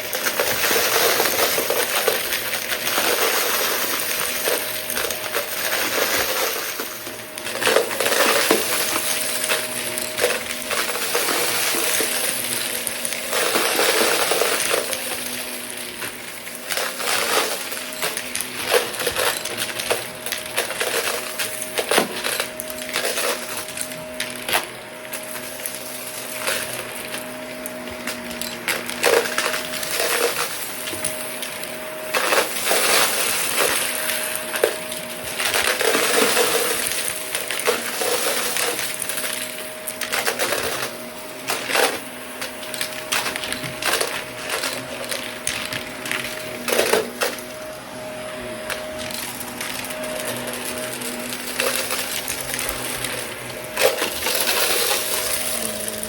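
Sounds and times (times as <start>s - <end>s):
debris clattering in vacuum head: 0.0s - 56.0s
vacuum cleaner motor whine: 0.0s - 56.0s.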